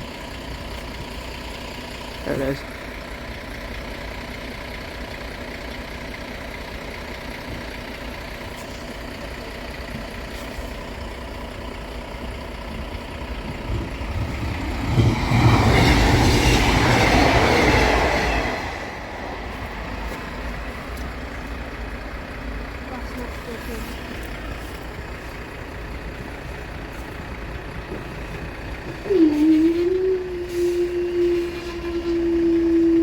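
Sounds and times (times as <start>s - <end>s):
diesel train passing: 0.0s - 33.0s.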